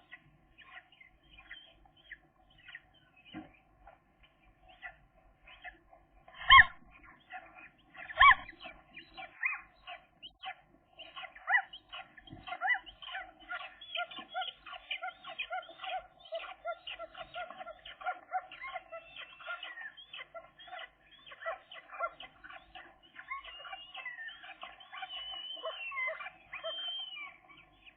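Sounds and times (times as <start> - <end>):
gull chicks peeping: 0.0 - 27.9.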